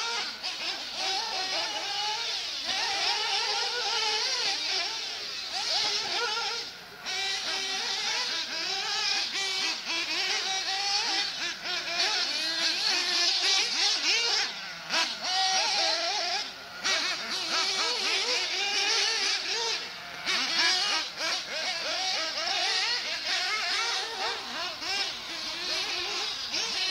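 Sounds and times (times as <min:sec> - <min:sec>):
high engine whine: 0:00.0 - 0:26.9
rc car engines revving: 0:00.0 - 0:26.9.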